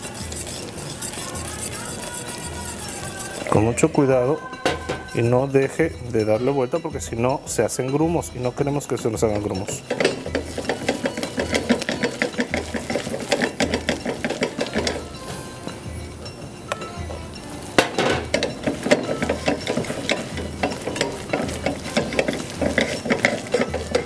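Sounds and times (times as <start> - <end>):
whisk clinking on pot: 0.0 - 24.0
wire whisk rattling in saucepan: 0.0 - 24.0.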